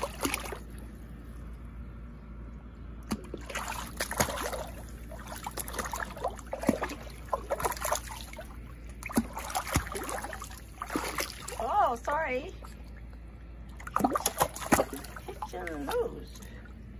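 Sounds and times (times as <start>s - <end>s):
water gurgling: 0.0s - 0.8s, 3.1s - 16.6s
water splashing in a pool: 0.0s - 1.5s, 3.0s - 16.9s.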